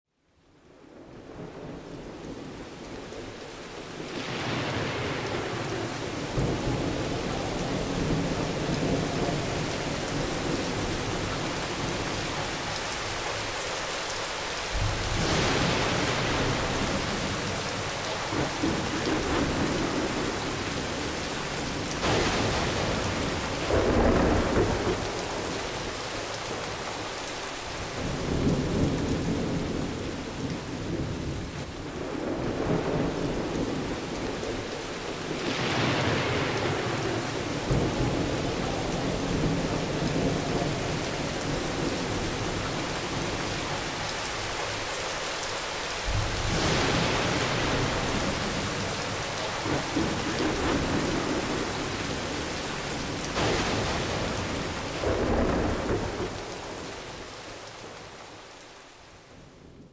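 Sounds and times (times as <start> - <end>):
steady rain falling: 0.1 - 59.9
thunder rumbling: 1.1 - 13.4, 14.7 - 27.0, 27.8 - 44.9, 46.0 - 57.4.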